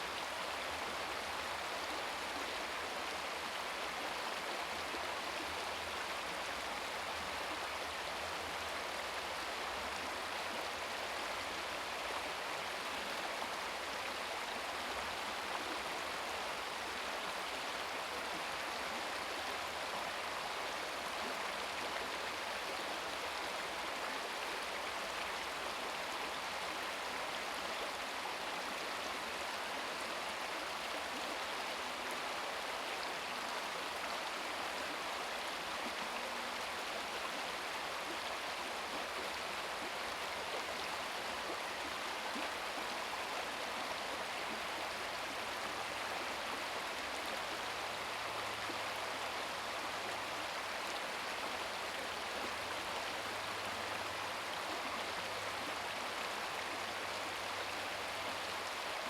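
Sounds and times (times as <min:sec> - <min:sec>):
brook babbling over rocks: 0:00.0 - 0:59.0.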